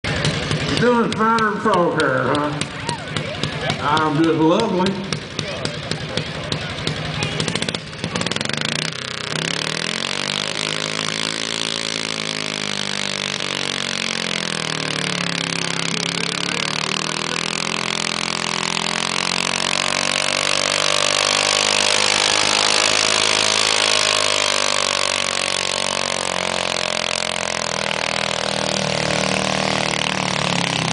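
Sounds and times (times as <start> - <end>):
tractor engine running under load: 0.0 - 30.9.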